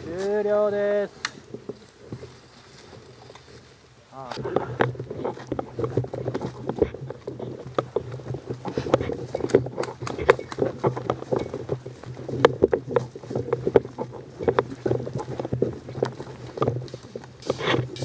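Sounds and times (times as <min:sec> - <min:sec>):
footsteps and gear rustling: 0:00.0 - 0:18.0.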